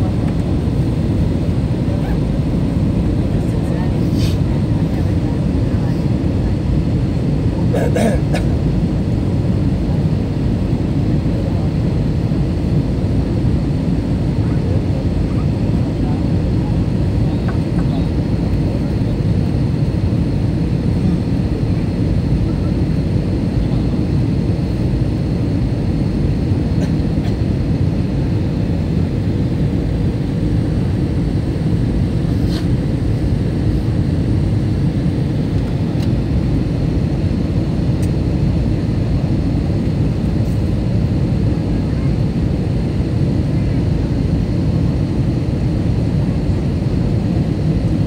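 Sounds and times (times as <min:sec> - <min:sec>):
jet engines and rushing airflow: 0:00.0 - 0:48.0.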